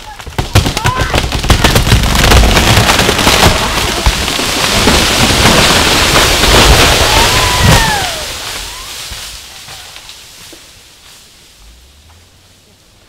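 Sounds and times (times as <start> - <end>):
tree trunk cracking and splintering: 0.0 - 10.5
crashing of breaking branches: 0.0 - 10.7.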